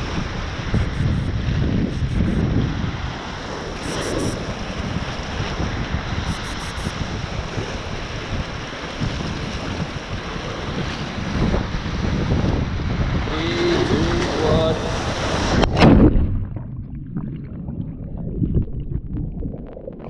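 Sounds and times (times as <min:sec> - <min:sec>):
wind buffeting microphone: 0:00.0 - 0:19.8.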